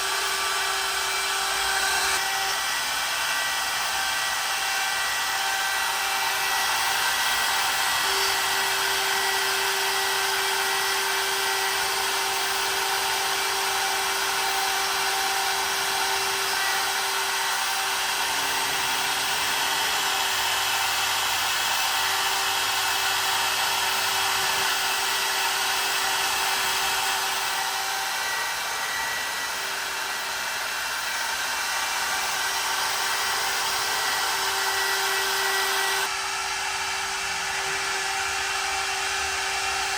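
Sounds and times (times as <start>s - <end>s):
spindle motor high whine: 0.0s - 39.9s.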